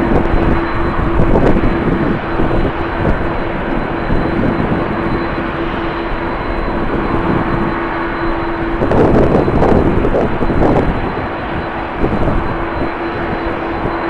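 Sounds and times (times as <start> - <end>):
jet engine hum: 0.0 - 14.0
wind buffeting microphone: 0.0 - 14.0.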